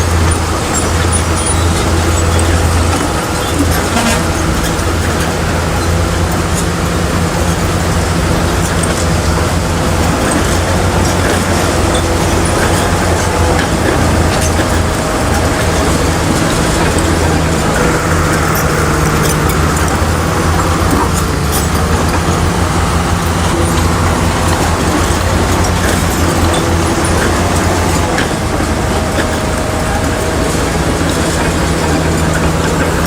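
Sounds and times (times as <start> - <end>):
heavy diesel engine running: 0.0 - 33.0
metallic clicks and clanks: 0.0 - 33.0.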